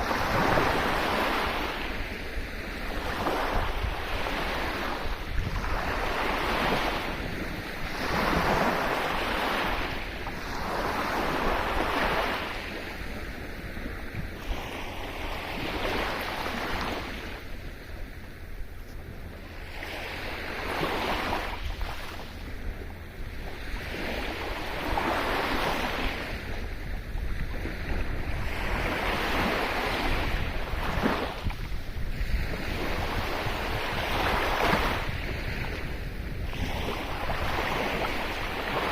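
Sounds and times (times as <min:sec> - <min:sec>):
sea waves breaking on shore: 0:00.0 - 0:38.9
wind rumbling on microphone: 0:00.0 - 0:38.9.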